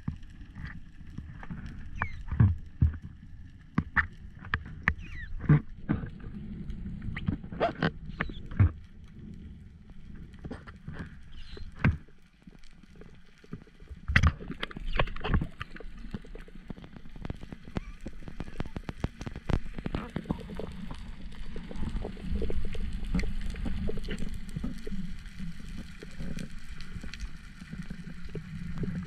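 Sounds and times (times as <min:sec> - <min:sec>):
sharp underwater clicks and crackles: 0:00.0 - 0:29.0
underwater moving water: 0:00.0 - 0:29.0.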